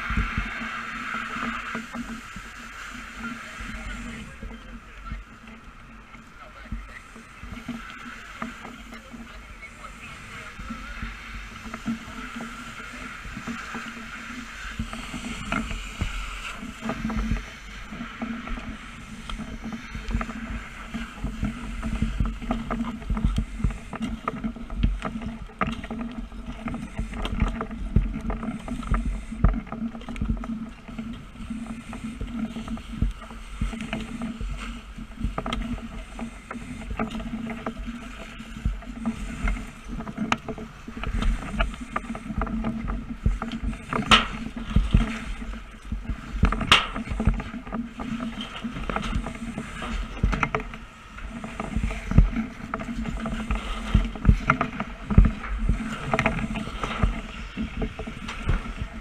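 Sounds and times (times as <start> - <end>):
crackles and knocks: 0.0 - 59.0
low engine drone: 0.0 - 59.0.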